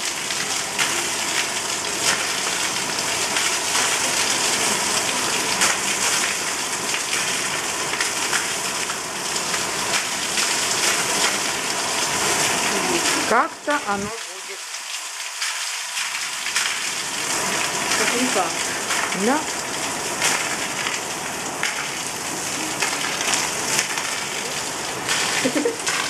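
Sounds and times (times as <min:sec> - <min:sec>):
heavy rain on flooded asphalt: 0:00.0 - 0:26.0.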